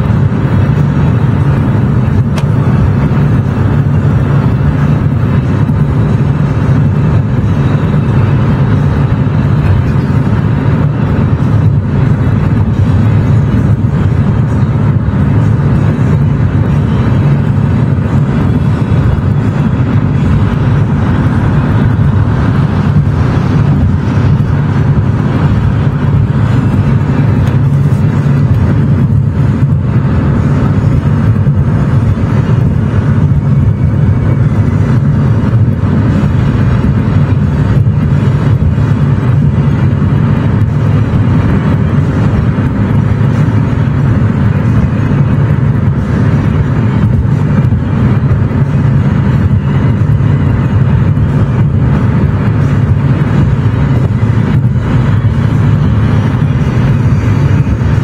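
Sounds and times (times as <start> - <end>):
car driving at speed: 0.0 - 58.0.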